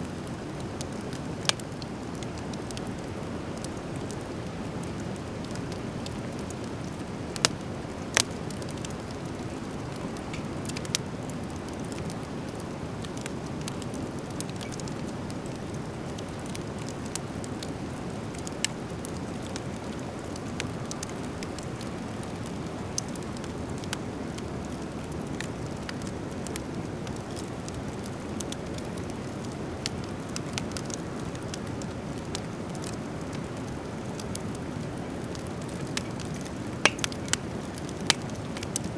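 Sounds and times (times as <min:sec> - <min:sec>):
wood fire crackling and popping: 0:00.1 - 0:38.9.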